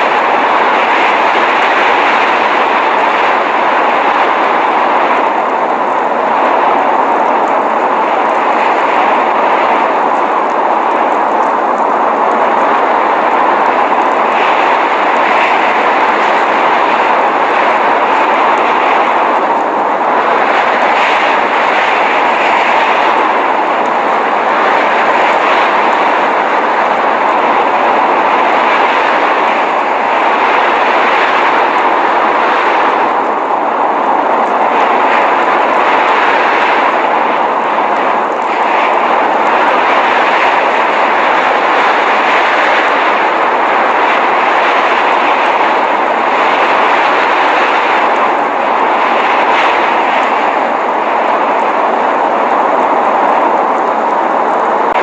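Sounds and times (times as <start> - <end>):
blizzard wind and driving snow: 0.0 - 55.0.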